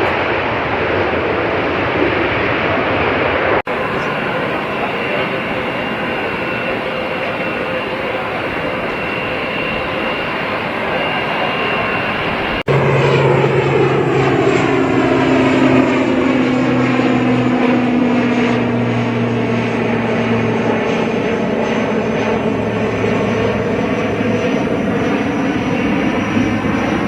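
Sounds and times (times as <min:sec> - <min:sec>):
jet airliner engines: 0:00.0 - 0:27.0.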